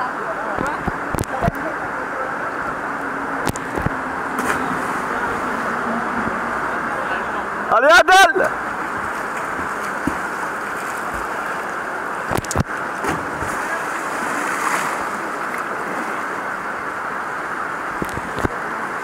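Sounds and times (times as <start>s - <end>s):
fast river water rushing: 0.0s - 19.0s
water splashing: 2.5s - 7.6s, 8.4s - 19.0s.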